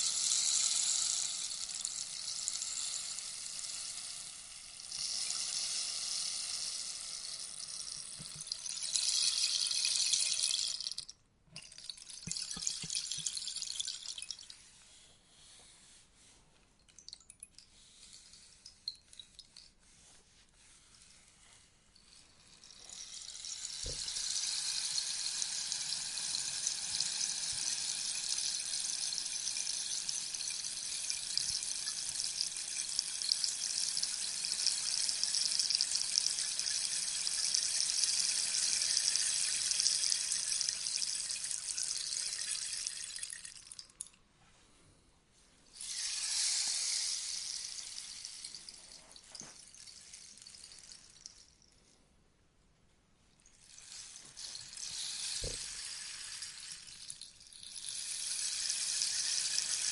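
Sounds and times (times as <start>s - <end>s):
rainstick beads trickling: 0.0s - 14.6s, 22.0s - 44.2s, 45.8s - 51.8s, 53.4s - 59.9s.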